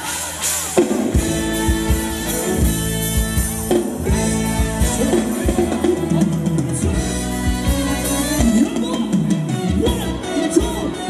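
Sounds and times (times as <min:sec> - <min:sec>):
bass and guitar: 0:00.0 - 0:11.0
drum kit beat: 0:00.0 - 0:11.0
live band dance music: 0:00.0 - 0:11.0.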